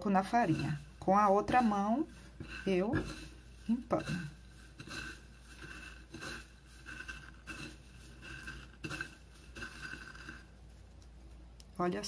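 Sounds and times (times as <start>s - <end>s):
hands rustling and patting breading: 0.0s - 11.7s.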